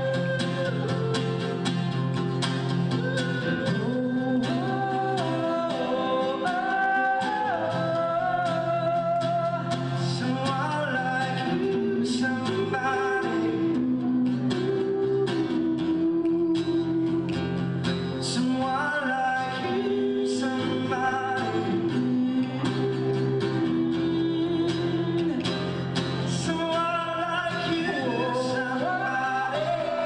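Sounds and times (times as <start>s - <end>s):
strummed acoustic guitar: 0.0s - 30.0s
person singing long sliding notes: 2.9s - 17.3s, 18.4s - 25.4s, 26.4s - 30.0s.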